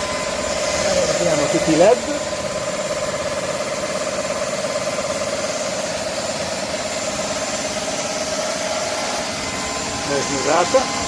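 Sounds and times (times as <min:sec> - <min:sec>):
stick vacuum cleaner running: 0:00.0 - 0:11.0.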